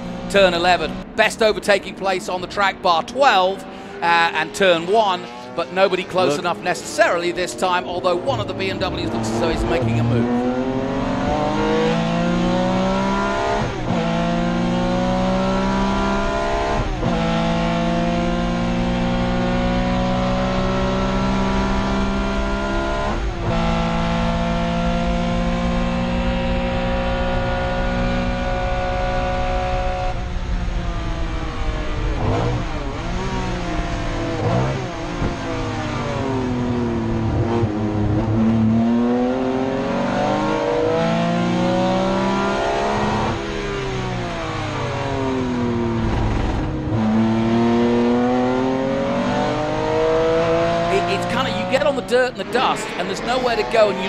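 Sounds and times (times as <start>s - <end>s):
race car engine accelerating: 0.0s - 54.0s.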